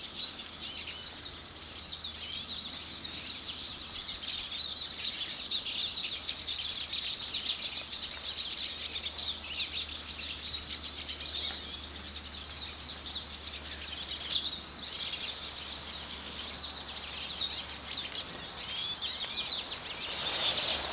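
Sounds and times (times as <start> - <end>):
many birds chirping: 0.0 - 20.9.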